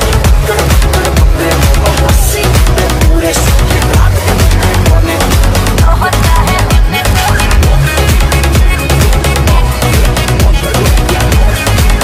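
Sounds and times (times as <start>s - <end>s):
upbeat dance music with heavy bass: 0.0s - 12.0s.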